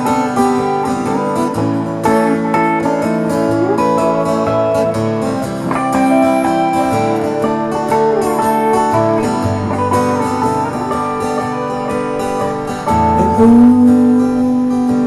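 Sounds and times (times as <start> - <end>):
lead guitar bending notes: 0.0 - 15.0
strummed acoustic guitar: 0.0 - 15.0.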